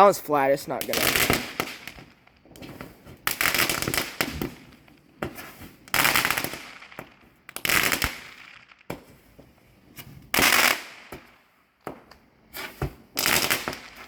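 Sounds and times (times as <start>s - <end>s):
fireworks sharp cracks: 0.6s - 14.0s
fireworks crackling pops: 0.7s - 14.0s.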